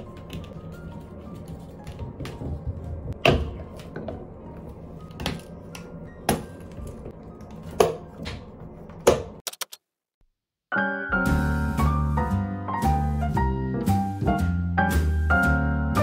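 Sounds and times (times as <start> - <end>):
soft background music: 0.0 - 9.0, 10.8 - 16.0.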